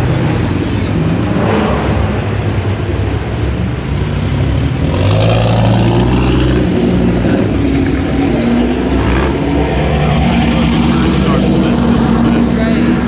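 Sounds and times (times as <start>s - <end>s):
sports car engine at low revs: 0.0s - 13.0s.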